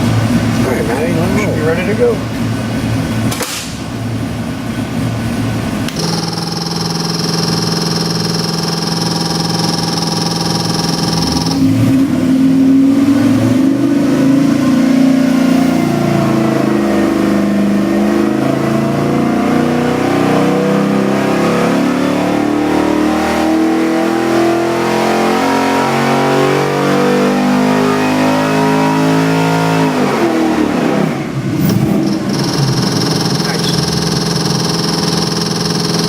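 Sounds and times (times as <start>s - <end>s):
engine revving at full throttle: 5.9s - 36.0s.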